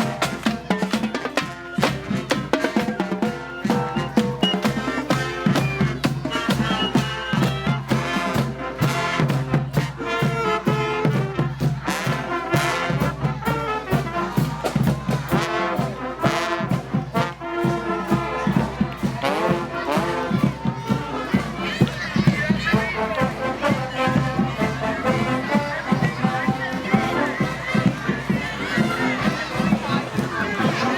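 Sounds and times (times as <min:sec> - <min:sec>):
drum beats: 0:00.0 - 0:30.9
marching band brass: 0:00.0 - 0:30.9.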